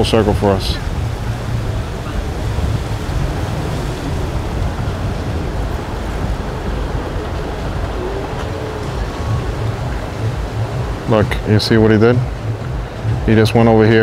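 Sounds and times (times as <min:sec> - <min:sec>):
outboard motors low rumble: 0:00.0 - 0:14.0
water wash at boat stern: 0:00.0 - 0:14.0
wind on microphone: 0:00.0 - 0:14.0.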